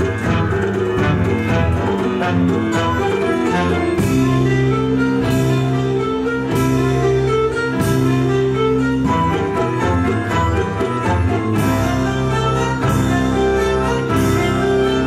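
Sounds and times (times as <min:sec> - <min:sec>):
instrumental ensemble music: 0:00.0 - 0:15.0.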